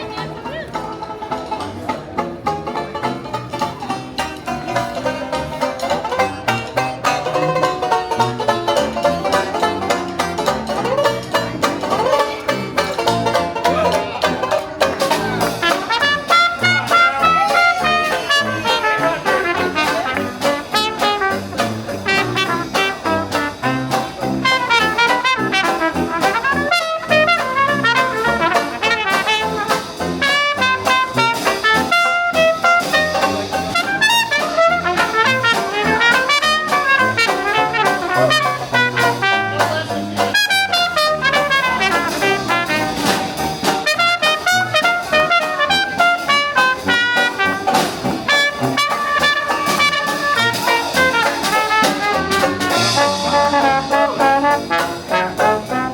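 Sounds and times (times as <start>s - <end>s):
jazz band playing: 0.0s - 55.9s
low bass line: 0.0s - 55.9s
brass horns melody: 3.3s - 55.9s.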